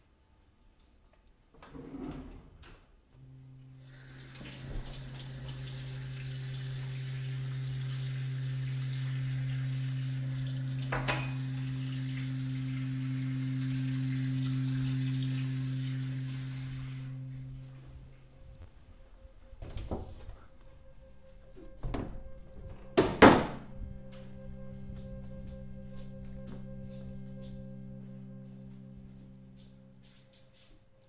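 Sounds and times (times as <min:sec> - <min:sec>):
low electronic drone tone: 0:03.1 - 0:31.0
higher electronic tone: 0:03.2 - 0:30.7.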